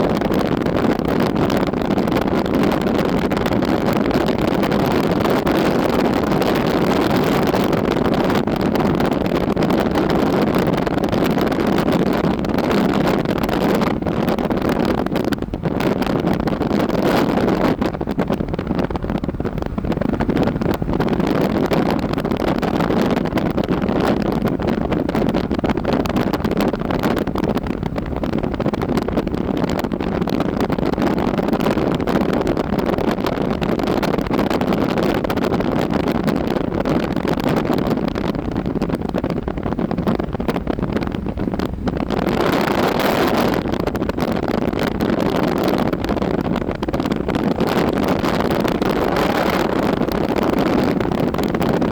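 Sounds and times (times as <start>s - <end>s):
wind blowing: 0.0s - 51.9s.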